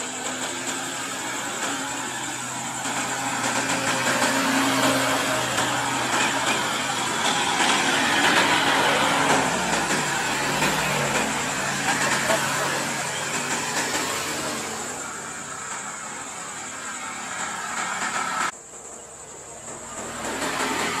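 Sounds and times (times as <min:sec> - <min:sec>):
car engines in slow traffic: 0:00.0 - 0:21.0.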